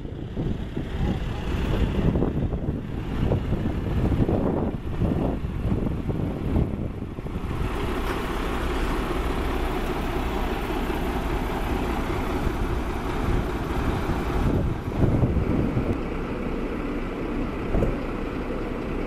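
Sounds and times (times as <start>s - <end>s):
fire engine rumbling: 0.0s - 19.0s.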